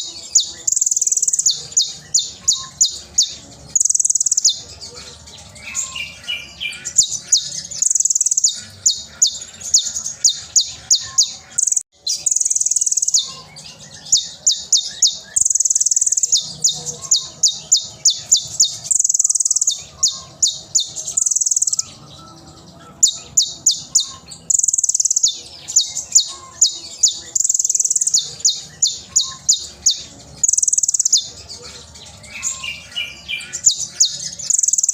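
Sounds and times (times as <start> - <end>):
sunbird buzzy trills: 0.0 - 34.9.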